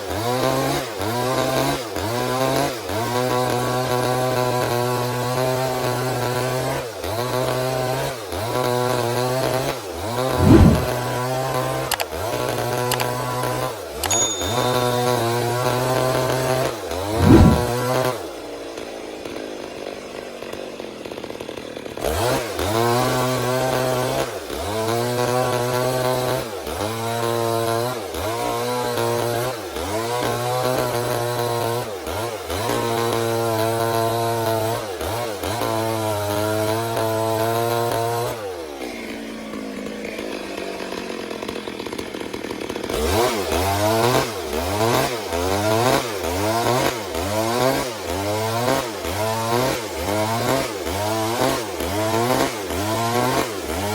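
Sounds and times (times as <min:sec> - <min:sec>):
chainsaw cutting through log: 0:00.0 - 0:53.9.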